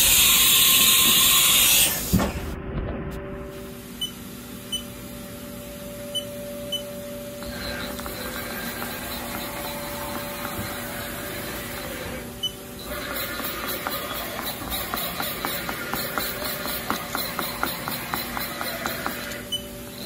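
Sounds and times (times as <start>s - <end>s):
machine hum with whining tones: 0.0s - 20.0s.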